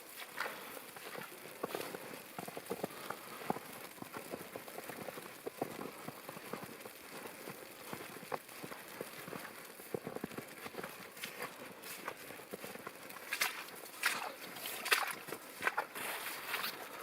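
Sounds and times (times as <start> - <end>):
footsteps squelching through wet snow: 0.0 - 17.0.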